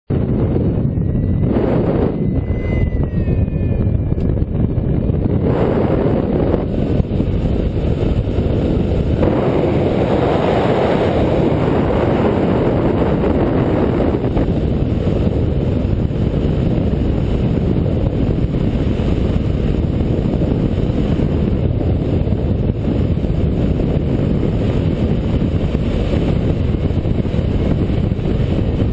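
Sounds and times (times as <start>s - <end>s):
wind rushing over microphone: 0.1s - 28.9s.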